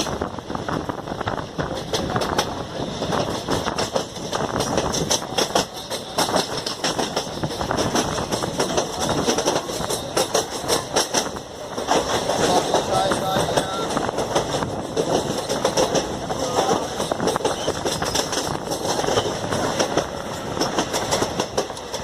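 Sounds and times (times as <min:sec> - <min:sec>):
train rumbling on track: 0:00.0 - 0:22.0
wheels clicking and rattling: 0:01.7 - 0:22.0.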